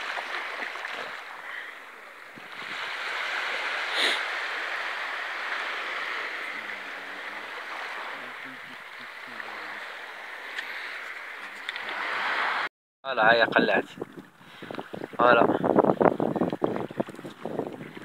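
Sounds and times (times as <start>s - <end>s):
sea surf washing ashore: 0.0s - 18.0s.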